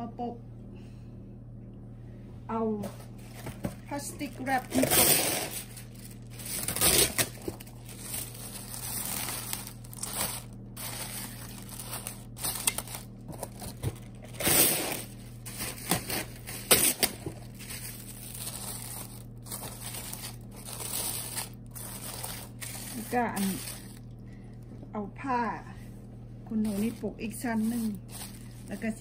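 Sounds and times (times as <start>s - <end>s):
plastic cling wrap crinkling: 3.2s - 24.3s, 26.6s - 29.0s.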